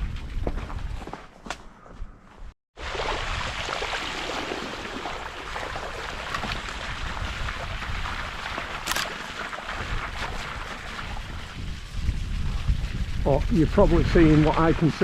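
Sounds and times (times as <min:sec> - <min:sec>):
wind rumble on microphone: 0:00.0 - 0:03.6, 0:05.3 - 0:15.0
bike tyres splashing through water: 0:02.8 - 0:15.0.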